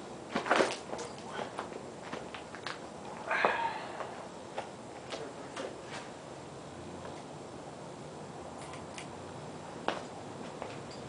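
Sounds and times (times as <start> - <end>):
ceiling fan running: 0.0 - 11.0.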